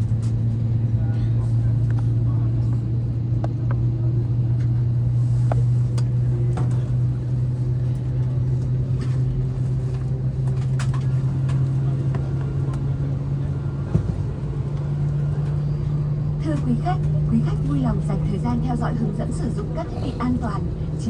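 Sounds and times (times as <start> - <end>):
aircraft cabin hum: 0.0 - 21.0.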